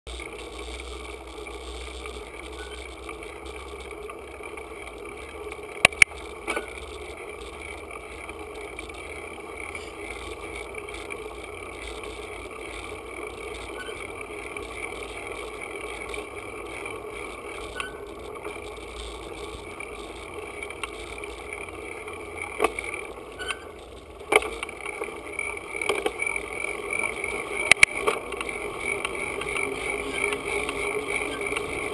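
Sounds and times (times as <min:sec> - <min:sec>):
bicycle rolling on asphalt: 0:00.1 - 0:31.9.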